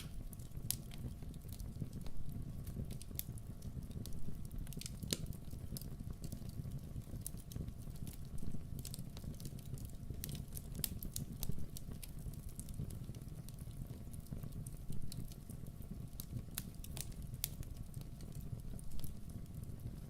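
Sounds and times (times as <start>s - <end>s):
campfire wood crackling and popping: 0.0s - 20.0s.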